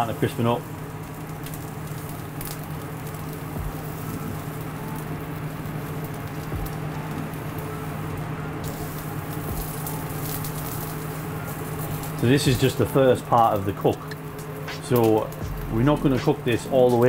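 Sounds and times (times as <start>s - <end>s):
fat sizzling on hot charcoal: 0.0s - 17.0s
steady low hum: 0.0s - 17.0s.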